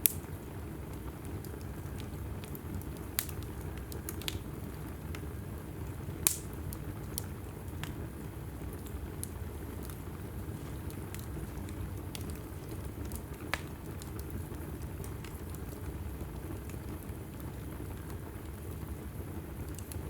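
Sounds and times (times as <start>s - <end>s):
fire crackling and popping: 0.0s - 20.0s
fire flames rumbling: 0.0s - 20.0s.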